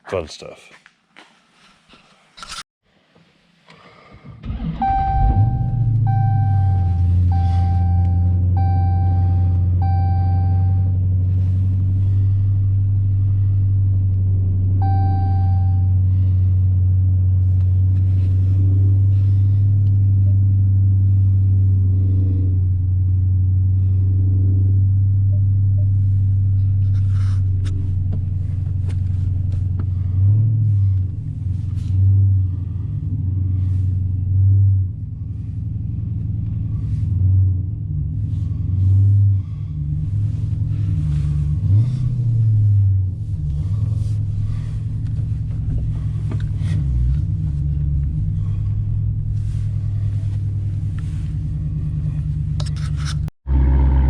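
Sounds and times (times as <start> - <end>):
car engine idling and revving: 3.7 - 54.0.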